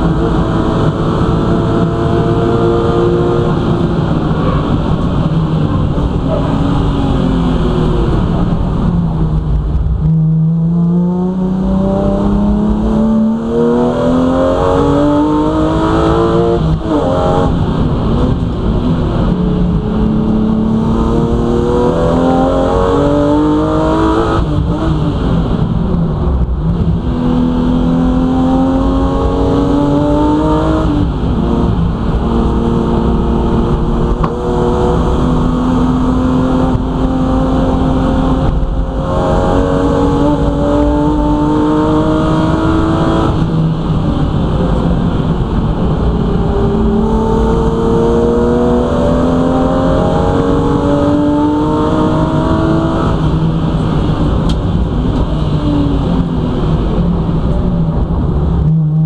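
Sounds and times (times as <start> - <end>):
race car engine accelerating: 0.0 - 59.0
road and tyre noise: 0.0 - 59.0.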